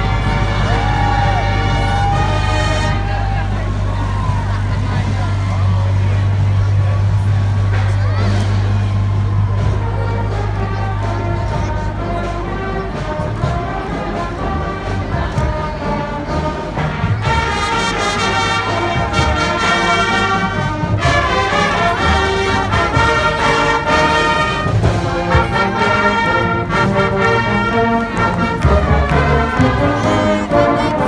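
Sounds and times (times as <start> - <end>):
brass melody: 0.0 - 31.0
drums beating: 0.0 - 31.0.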